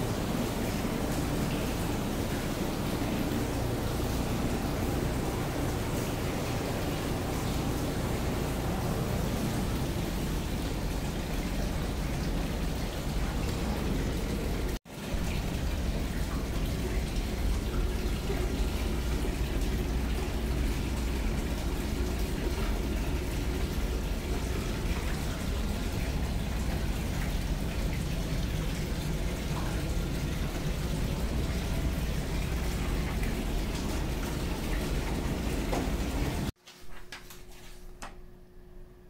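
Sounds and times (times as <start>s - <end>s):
constant low rumble: 0.0s - 36.5s
water splashing into bath: 0.0s - 36.5s.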